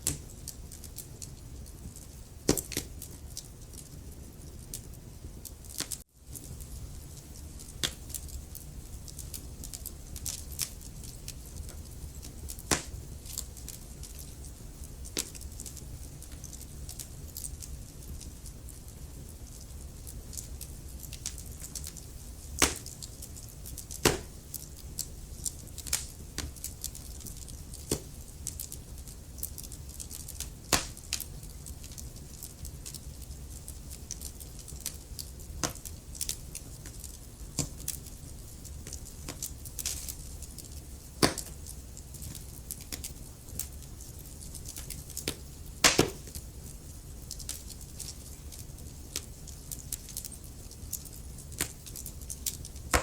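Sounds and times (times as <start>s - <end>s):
fire crackling and popping: 0.0s - 53.0s
low rumble of flames: 0.0s - 53.0s.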